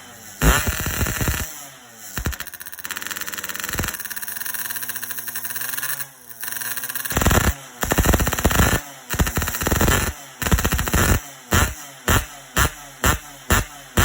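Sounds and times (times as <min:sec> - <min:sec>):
two-stroke motorcycle engine revving: 0:00.0 - 0:14.0.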